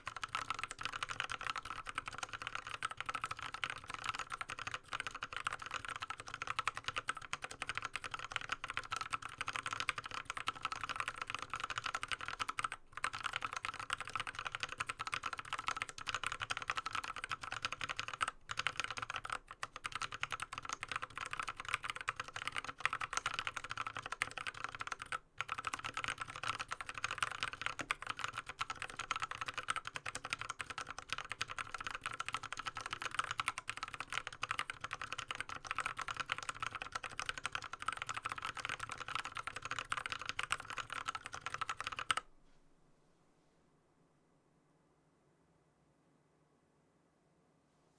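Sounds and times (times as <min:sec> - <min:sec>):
fast mechanical keyboard typing: 0:00.0 - 0:42.3.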